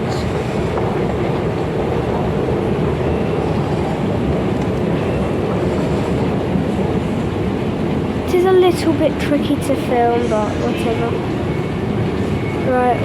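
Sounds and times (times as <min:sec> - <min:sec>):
underground station rumble: 0:00.0 - 0:13.0.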